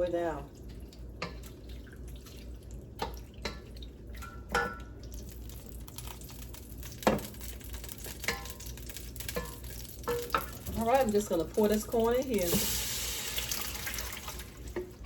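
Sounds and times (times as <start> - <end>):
grease frying in pan: 0.0 - 15.0.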